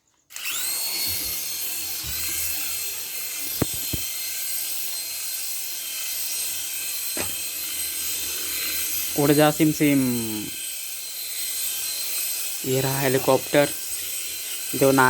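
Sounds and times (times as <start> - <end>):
toy helicopter motor whine: 0.1 - 15.0.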